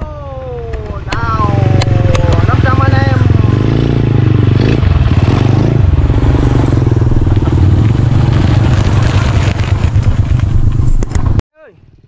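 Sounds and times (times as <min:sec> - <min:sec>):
motorbike engine passing on gravel: 0:00.5 - 0:12.0.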